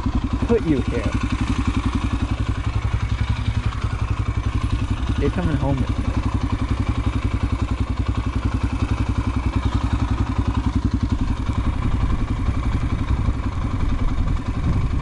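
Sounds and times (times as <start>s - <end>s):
dirt bike engine idling: 0.0s - 15.0s.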